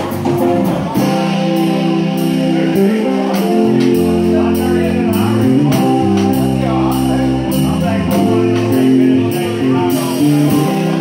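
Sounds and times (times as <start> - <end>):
drum kit beat: 0.0 - 11.0
electric guitars sustained notes: 0.0 - 11.0.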